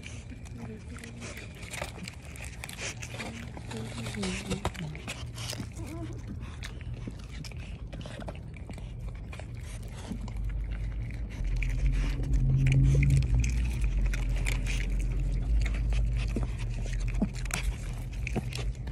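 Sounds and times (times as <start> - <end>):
low rumble: 0.0 - 18.9.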